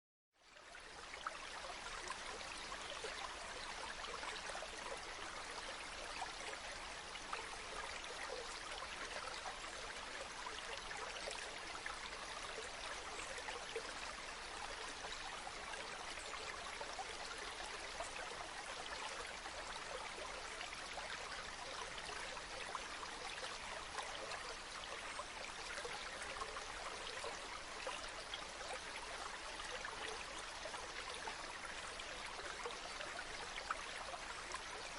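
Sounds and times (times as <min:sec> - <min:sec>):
stream flowing over rocks: 0:00.5 - 0:34.9.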